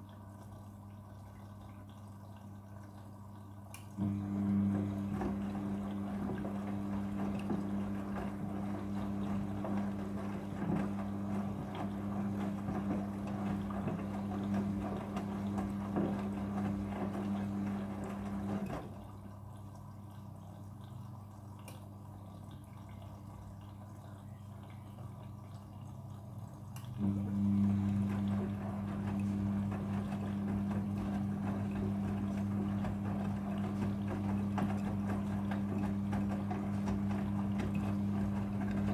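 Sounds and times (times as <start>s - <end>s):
washing machine pump hum: 0.0s - 38.9s
water trickling and dripping: 0.0s - 38.9s.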